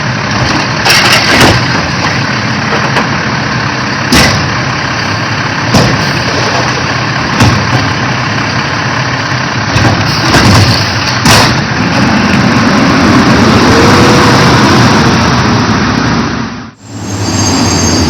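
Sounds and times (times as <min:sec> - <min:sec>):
garbage truck engine running: 0:00.0 - 0:18.0.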